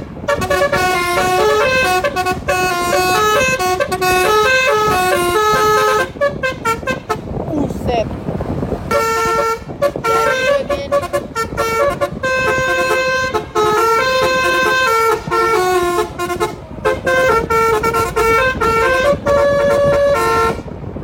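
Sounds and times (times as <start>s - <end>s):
musical car horn playing tune: 0.0s - 7.4s, 8.8s - 20.9s.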